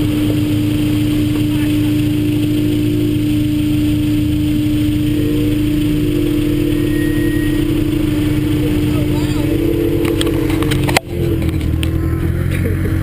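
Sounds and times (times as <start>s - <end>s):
car engine droning: 0.0s - 13.0s
car engines idling: 0.0s - 13.0s.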